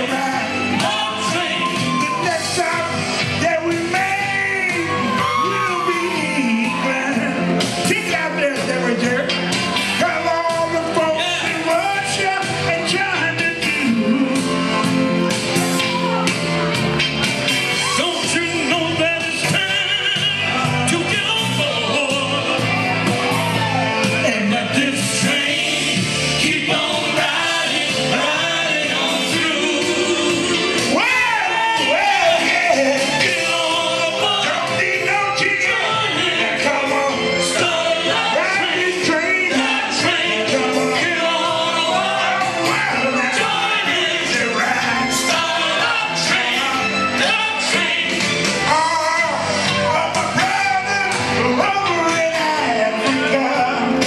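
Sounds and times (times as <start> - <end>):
oldies song over pa: 0.0 - 54.0.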